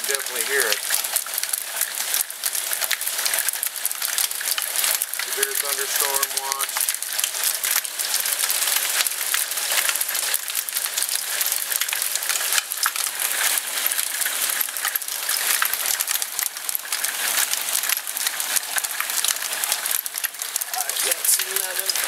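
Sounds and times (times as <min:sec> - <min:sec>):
hail clattering: 0:00.0 - 0:22.0
heavy rain hissing: 0:00.0 - 0:22.0.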